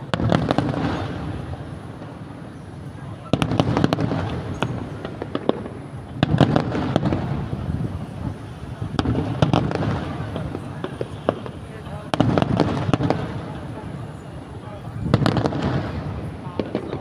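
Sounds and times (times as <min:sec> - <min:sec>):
fireworks bursting with bangs: 0:00.0 - 0:17.0
fireworks crackling: 0:00.0 - 0:17.0.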